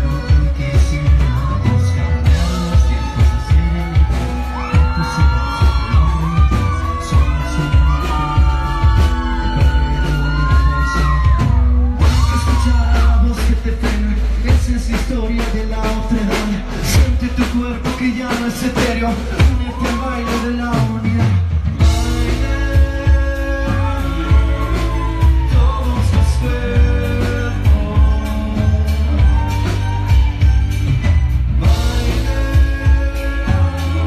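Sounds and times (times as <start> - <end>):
bass: 0.0 - 34.0
drums: 0.0 - 34.0
man singing: 0.0 - 34.0.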